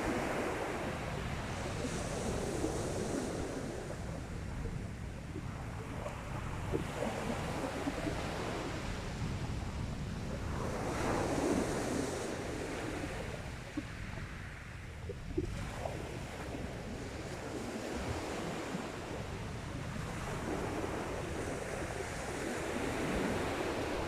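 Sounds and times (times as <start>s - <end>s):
sea waves breaking on beach: 0.0s - 24.0s
wind rumble on microphone: 0.0s - 24.0s.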